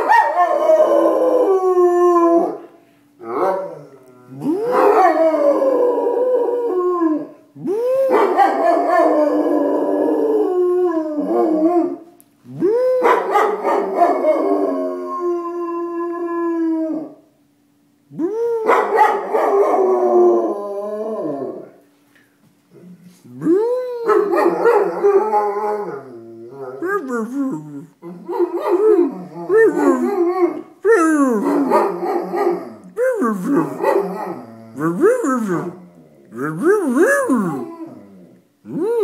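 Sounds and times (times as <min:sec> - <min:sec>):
dog howling: 0:00.0 - 0:17.2, 0:18.1 - 0:21.8, 0:23.3 - 0:39.0.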